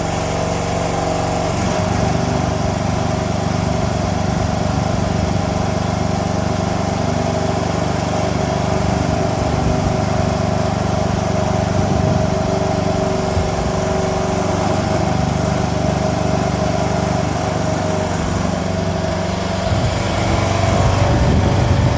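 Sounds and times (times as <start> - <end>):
mini excavator engine running: 0.0 - 21.9.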